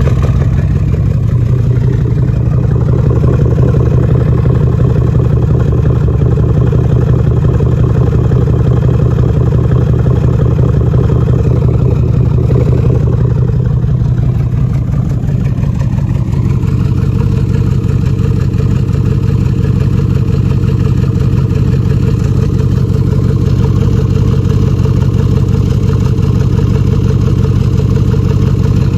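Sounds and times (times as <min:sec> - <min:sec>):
engine running with pulsing exhaust: 0:00.0 - 0:28.9.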